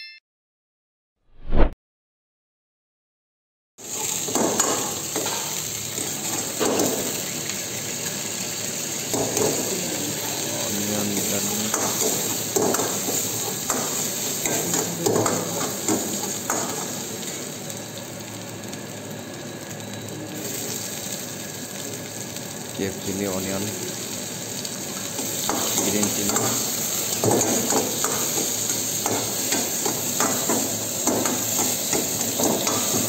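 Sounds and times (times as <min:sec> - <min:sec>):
food sizzling in hot oil: 0:03.8 - 0:33.0.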